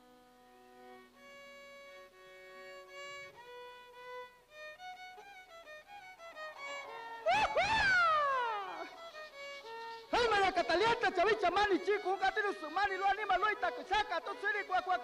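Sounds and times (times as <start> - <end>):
violin melody: 0.0 - 15.0.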